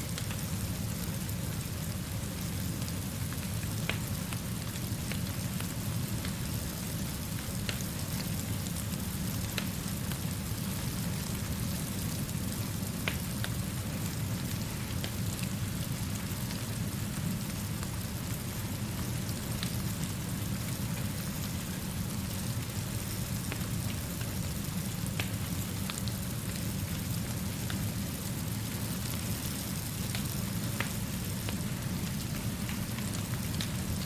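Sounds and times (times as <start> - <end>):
fire crackling: 0.0 - 34.0
steady rainfall: 0.0 - 34.0.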